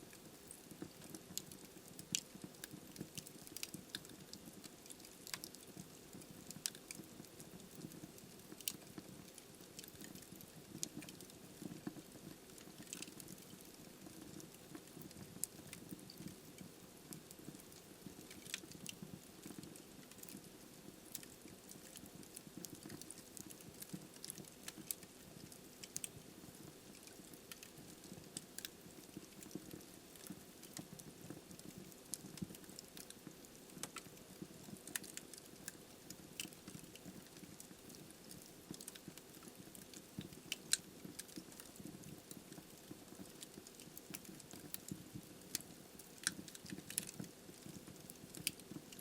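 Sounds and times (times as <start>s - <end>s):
fire crackling and popping: 0.0s - 49.0s.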